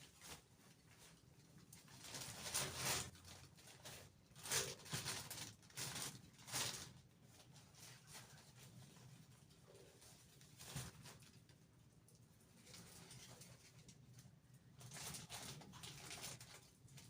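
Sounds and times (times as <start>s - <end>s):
rustling and scraping: 0.0s - 17.0s.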